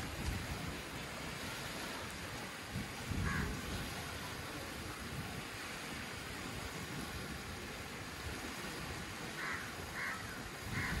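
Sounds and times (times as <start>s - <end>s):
waves washing onto sand: 0.0s - 11.0s.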